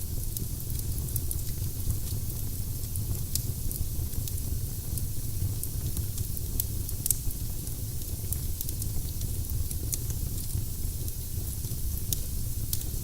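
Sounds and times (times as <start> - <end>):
firewood crackling and popping: 0.2 - 13.0.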